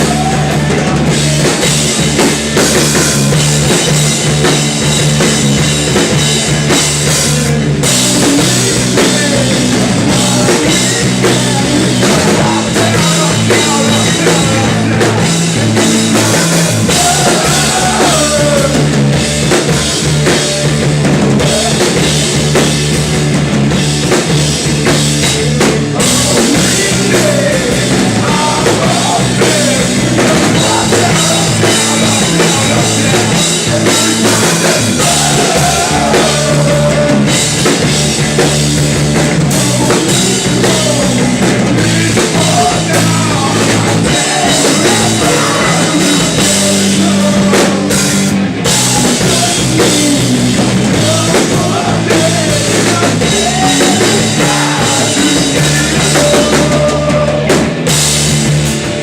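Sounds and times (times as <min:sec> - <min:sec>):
drum kit: 0:00.0 - 0:59.0
rock band playing: 0:00.0 - 0:59.0.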